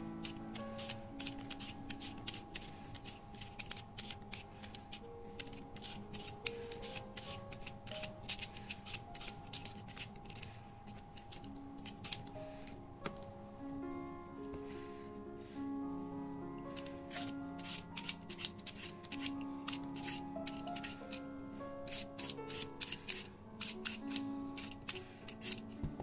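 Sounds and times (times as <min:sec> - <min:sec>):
vegetable peeler scraping: 0:00.0 - 0:12.8, 0:16.6 - 0:26.0
quiet background music: 0:00.0 - 0:26.0.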